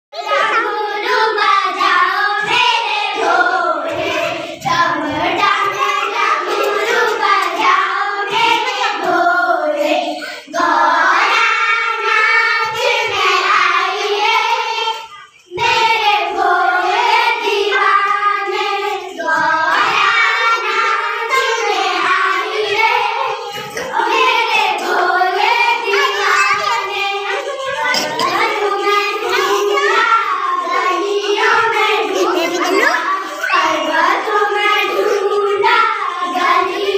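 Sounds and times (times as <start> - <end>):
girls singing in unison: 0.2 - 36.9.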